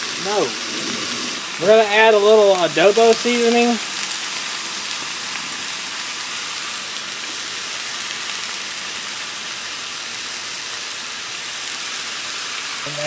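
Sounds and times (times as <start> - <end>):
beef sizzling on a griddle: 0.0 - 13.0.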